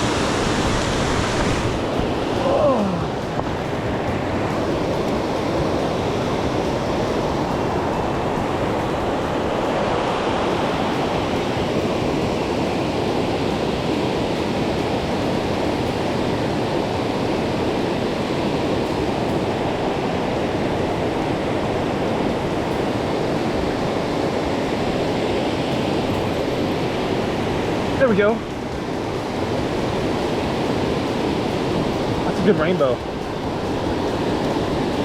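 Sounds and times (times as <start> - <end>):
rushing river water: 0.0 - 35.0.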